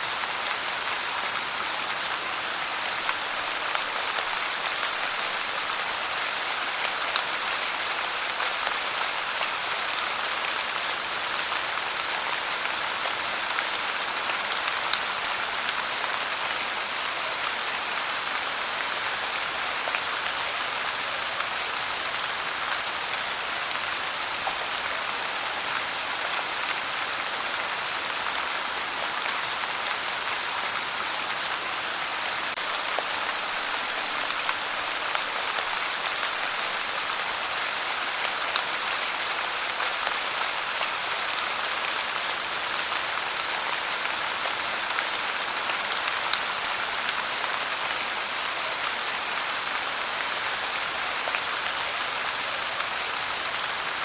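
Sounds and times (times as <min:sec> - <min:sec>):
steady pouring rain: 0:00.0 - 0:54.0.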